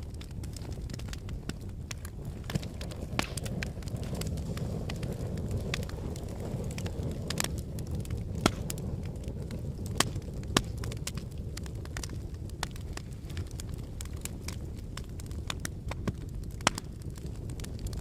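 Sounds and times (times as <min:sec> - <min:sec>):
fire crackling in a fireplace: 0:00.0 - 0:18.0.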